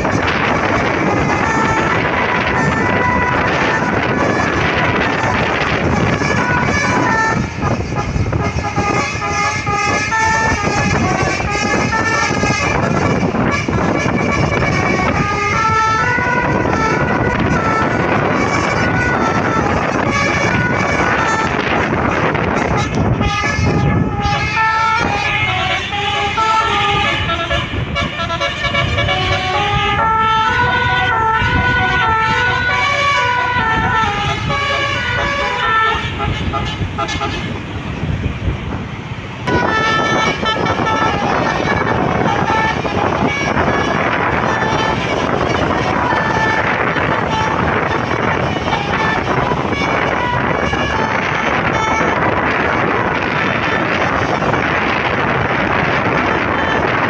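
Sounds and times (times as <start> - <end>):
bus musical horn tune: 0.0 - 37.7, 39.5 - 57.0
road rumble: 0.0 - 57.0
wind: 0.0 - 57.0.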